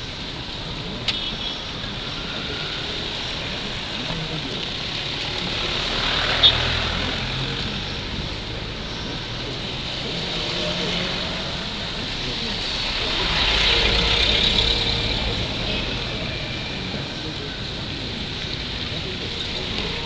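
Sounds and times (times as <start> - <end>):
heavy engine rumble: 0.0 - 20.0
tyres hissing on wet road: 0.0 - 20.0
vehicle engines: 0.0 - 20.0.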